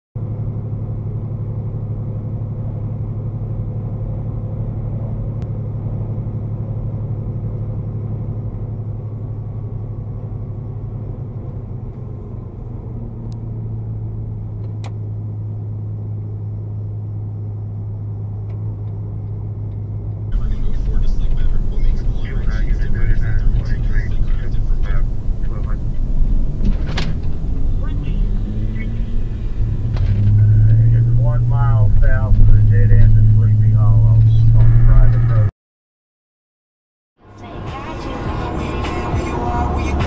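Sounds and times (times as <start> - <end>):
truck engine drone and road noise: 0.2 - 35.5, 37.2 - 40.0.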